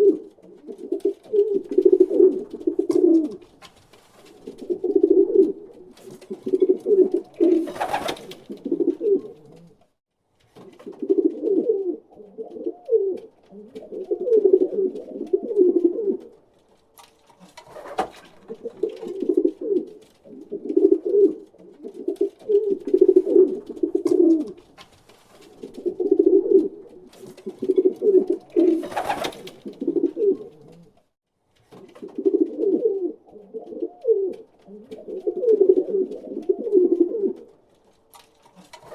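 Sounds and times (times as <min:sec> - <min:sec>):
pigeons cooing: 0:00.0 - 0:03.5, 0:04.3 - 0:09.8, 0:10.8 - 0:16.4, 0:17.4 - 0:24.6, 0:25.6 - 0:31.0, 0:31.9 - 0:37.6, 0:38.5 - 0:38.9.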